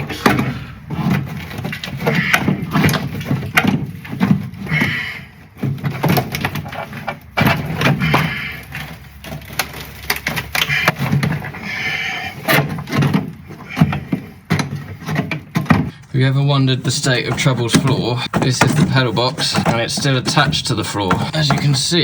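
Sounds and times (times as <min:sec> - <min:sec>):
hand tools on metal: 0:00.0 - 0:22.0.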